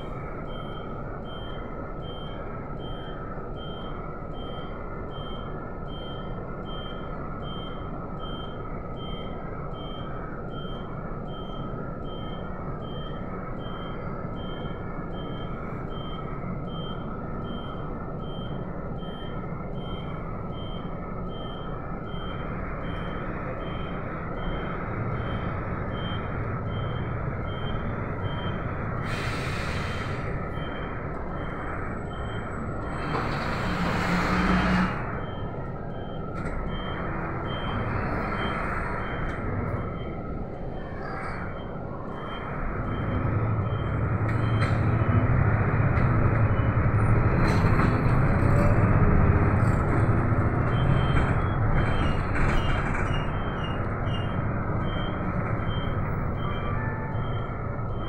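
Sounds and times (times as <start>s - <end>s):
bus engine rumbling: 0.0s - 58.0s.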